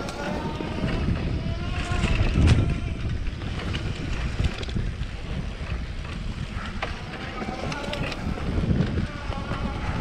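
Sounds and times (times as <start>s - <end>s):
bike rumbling over dirt trail: 0.0s - 10.0s
wind buffeting microphone: 0.0s - 10.0s.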